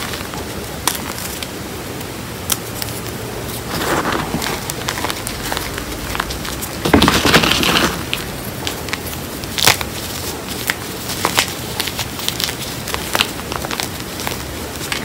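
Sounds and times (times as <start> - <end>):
chalk crackling and crunching: 0.0 - 15.0
sharp crack: 2.4 - 15.0.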